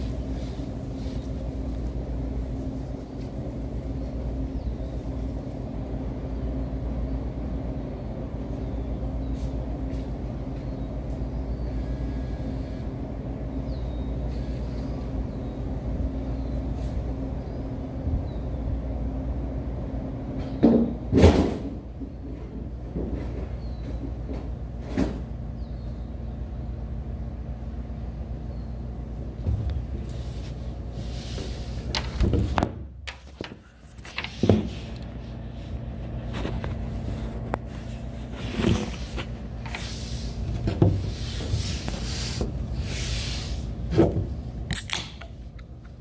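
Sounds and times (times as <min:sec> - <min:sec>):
low background hum: 0:00.0 - 0:46.0.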